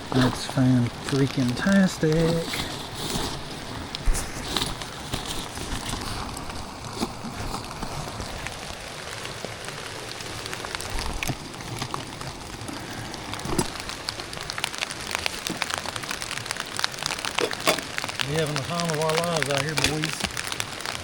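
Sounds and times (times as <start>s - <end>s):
rain falling: 0.0s - 21.0s
raindrops ticking: 0.0s - 21.0s.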